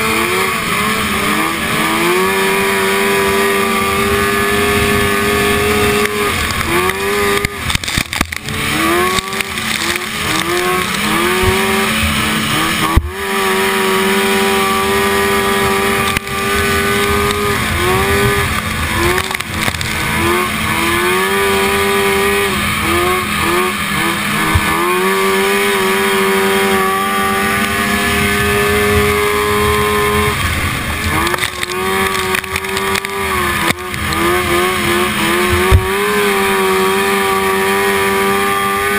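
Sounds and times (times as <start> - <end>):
snowmobile engine racing: 0.0 - 38.9.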